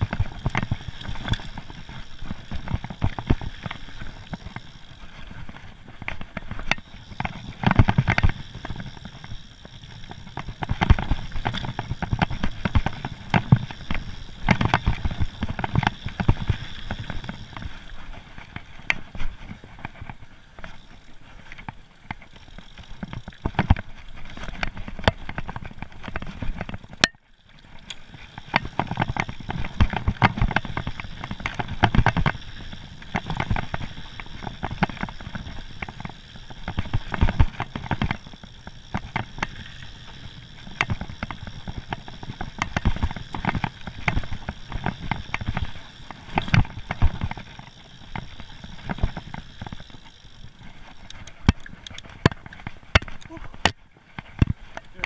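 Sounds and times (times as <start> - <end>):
bike rattling and knocking: 0.0 - 55.0
bike tyres rolling over dirt: 0.0 - 55.0.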